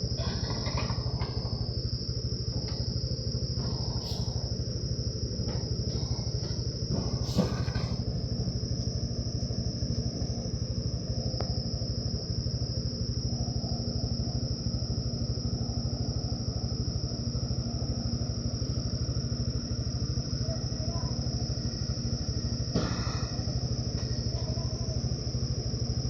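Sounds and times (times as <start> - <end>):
constant high-pitched tone: 0.0 - 26.0
diesel engine pulsing drone: 0.0 - 26.0.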